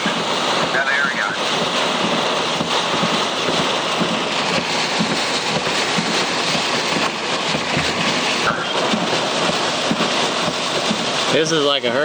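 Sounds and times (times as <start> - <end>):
strong wind: 0.0 - 11.9
heavy rain drumming on car roof: 0.0 - 12.0.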